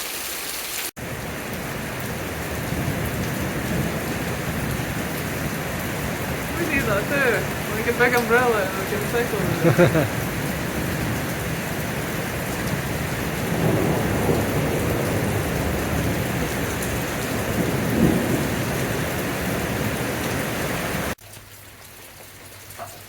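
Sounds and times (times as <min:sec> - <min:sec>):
heavy rain pouring: 0:00.5 - 0:22.9
thunder rumbling: 0:01.0 - 0:21.2.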